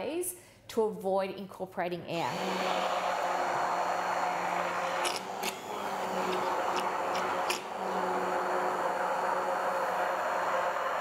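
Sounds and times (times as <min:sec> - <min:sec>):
stick blender running in liquid: 0:02.2 - 0:11.0.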